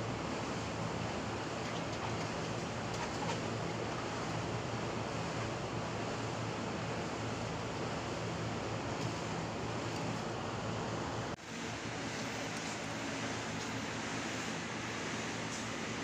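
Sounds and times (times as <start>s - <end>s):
even outdoor hiss: 0.0s - 16.0s.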